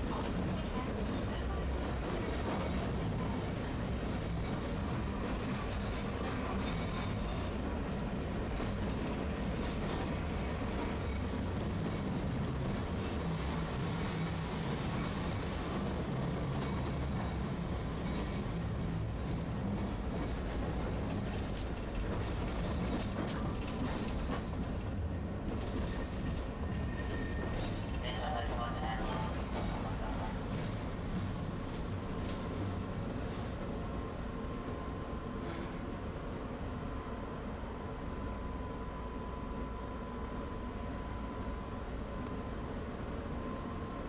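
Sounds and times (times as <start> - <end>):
streetcar rumbling on rails: 0.0 - 44.0.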